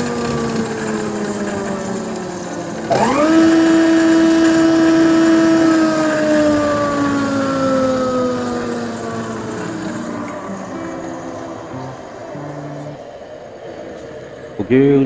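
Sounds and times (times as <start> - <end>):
electric motor whine: 0.0 - 14.5.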